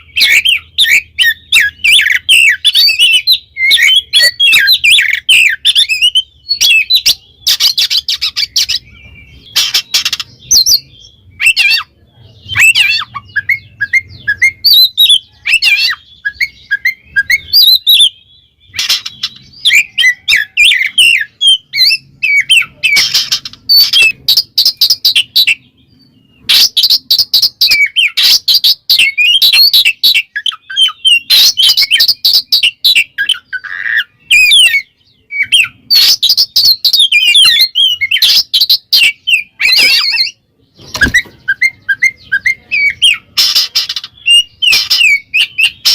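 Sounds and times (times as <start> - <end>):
bird singing whistles and chirps: 0.0 - 45.9.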